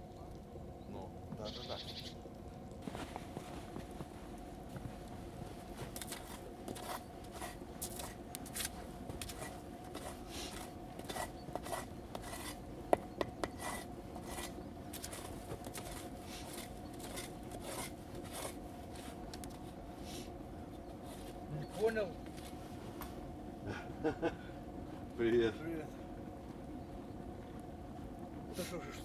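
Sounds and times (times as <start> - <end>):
wood fire crackling: 2.2 - 29.0.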